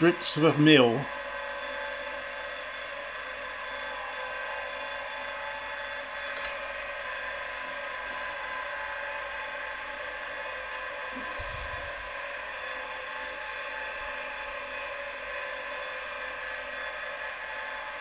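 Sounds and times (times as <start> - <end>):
milling machine whirring: 0.0 - 18.0.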